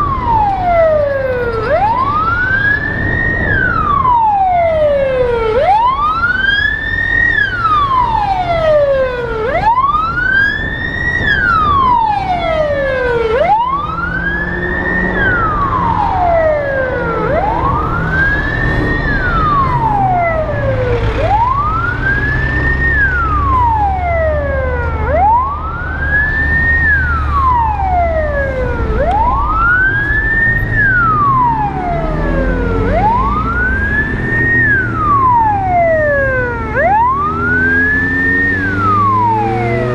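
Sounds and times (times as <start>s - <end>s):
emergency vehicle siren wailing: 0.0s - 39.9s.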